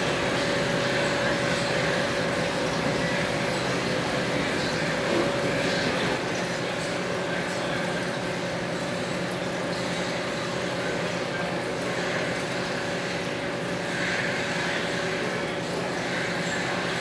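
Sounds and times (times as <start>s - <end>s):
aquarium pumps humming: 0.0s - 17.0s
circulating water: 0.0s - 17.0s.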